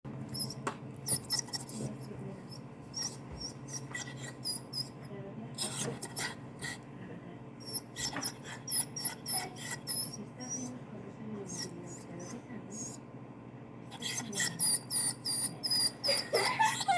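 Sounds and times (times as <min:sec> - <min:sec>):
dog whining: 0:00.3 - 0:06.8, 0:07.6 - 0:10.8, 0:11.4 - 0:13.0, 0:13.9 - 0:16.9.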